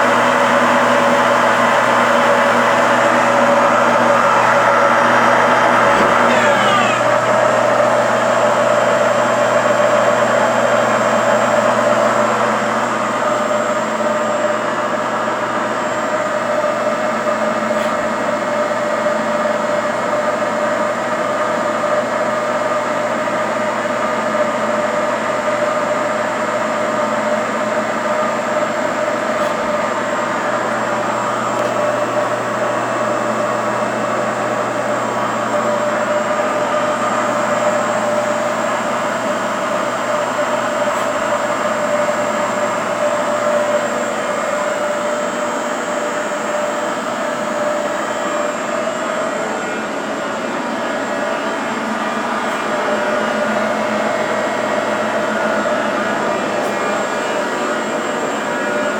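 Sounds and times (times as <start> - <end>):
lathe running: 0.0 - 58.9.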